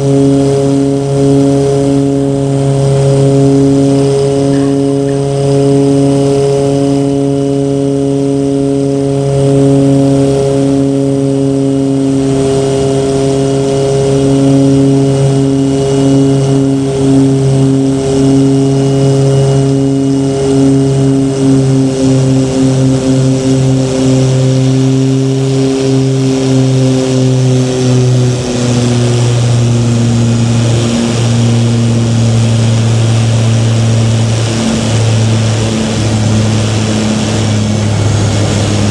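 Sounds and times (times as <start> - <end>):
propeller engine droning: 0.0 - 38.9.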